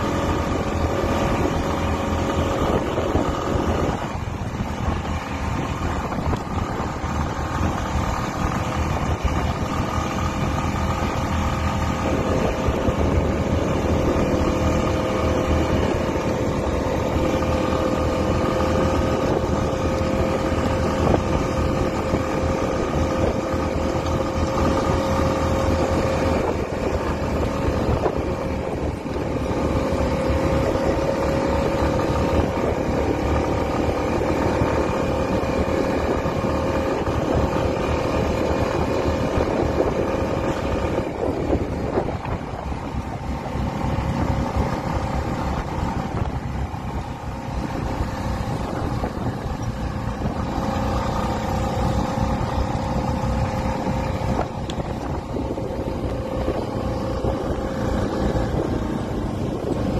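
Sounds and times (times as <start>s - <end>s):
off-road vehicle engine droning: 0.0s - 59.9s
wind buffeting microphone: 0.0s - 59.9s.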